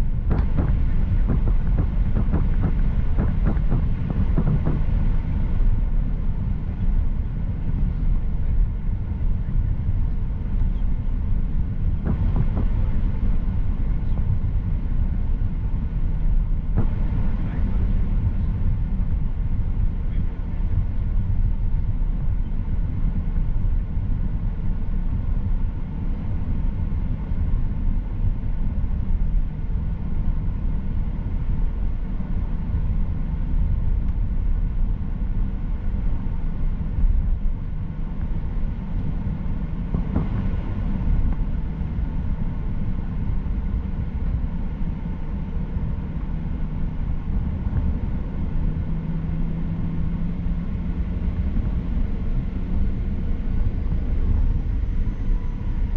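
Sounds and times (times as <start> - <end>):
airplane cabin engine rumble: 0.0 - 55.9
faint steady whine: 0.0 - 55.9.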